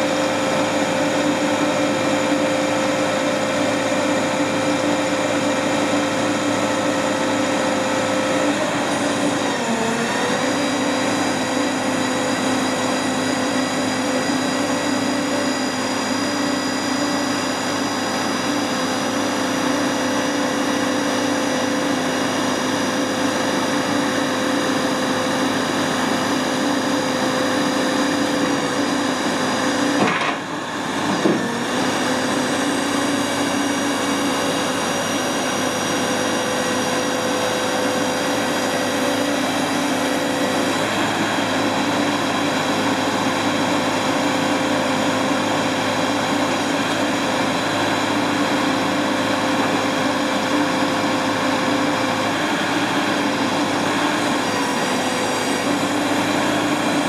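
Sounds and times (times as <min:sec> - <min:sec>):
diesel engine running: 0:00.0 - 0:57.0
hydraulic whine: 0:00.0 - 0:57.0.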